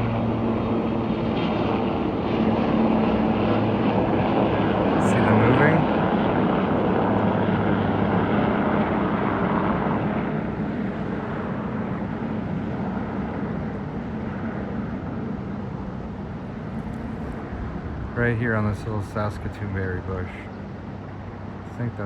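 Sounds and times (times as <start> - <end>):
aircraft engine drone overhead: 0.0 - 22.0.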